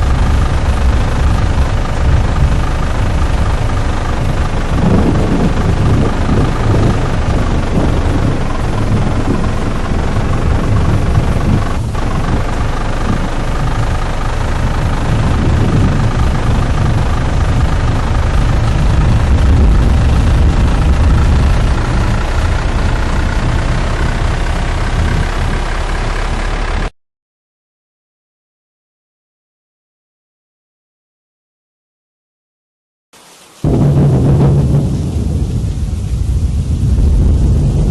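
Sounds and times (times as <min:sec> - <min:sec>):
heavy wind noise: 0:00.0 - 0:26.9, 0:33.6 - 0:37.9
vehicle engine running: 0:00.0 - 0:26.9, 0:33.7 - 0:37.9.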